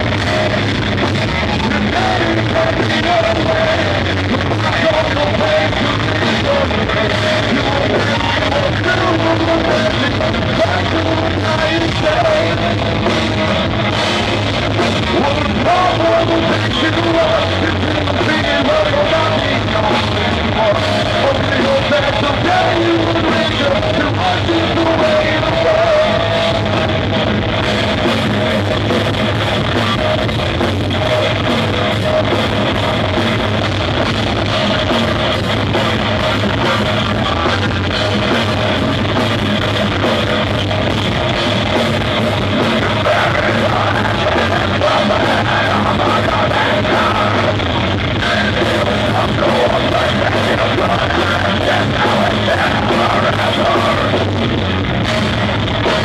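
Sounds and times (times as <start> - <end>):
person singing into a microphone: 0.0 - 27.2, 28.0 - 54.6
drums: 0.0 - 56.0
electric guitars: 0.0 - 56.0.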